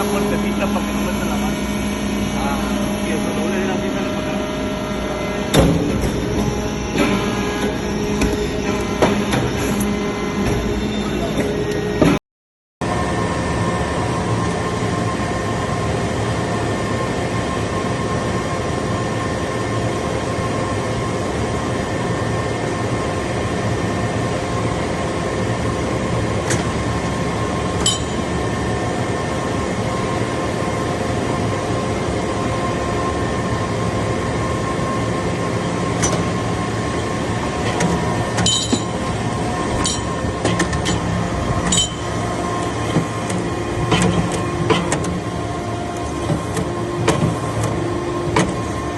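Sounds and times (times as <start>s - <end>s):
hydraulic power unit humming: 0.0s - 12.2s, 12.8s - 48.9s.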